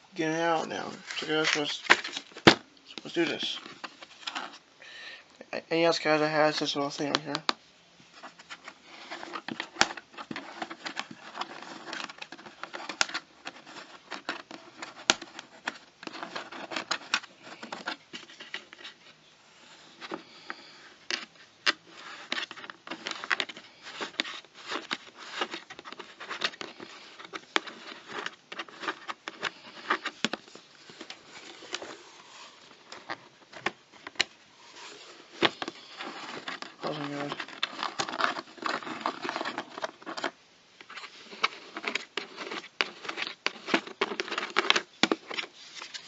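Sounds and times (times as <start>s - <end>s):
packaging rustling and scraping: 0.5s - 4.7s, 6.5s - 46.0s.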